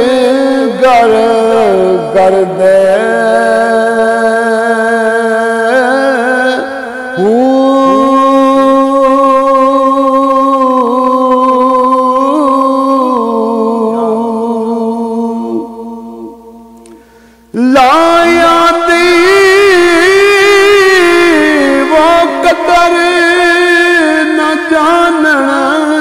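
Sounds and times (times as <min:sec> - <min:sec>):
man singing long note: 0:00.0 - 0:16.9, 0:17.5 - 0:26.0.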